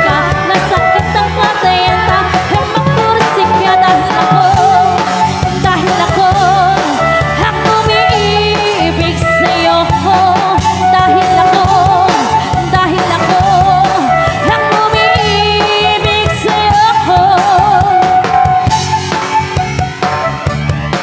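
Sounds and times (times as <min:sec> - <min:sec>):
drum kit beat: 0:00.0 - 0:21.0
live pop band playing: 0:00.0 - 0:21.0.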